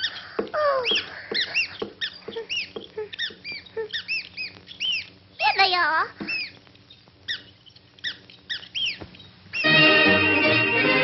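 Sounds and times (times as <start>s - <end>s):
cartoon mice squeaking: 0.0s - 9.8s.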